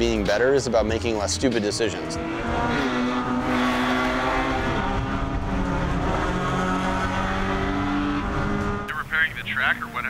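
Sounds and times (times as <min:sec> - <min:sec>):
race car engine at speed: 0:00.0 - 0:10.0.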